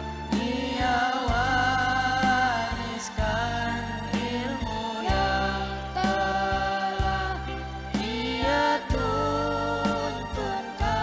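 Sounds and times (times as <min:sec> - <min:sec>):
instrumental accompaniment with beat: 0:00.0 - 0:11.0
male choir singing: 0:00.0 - 0:11.0.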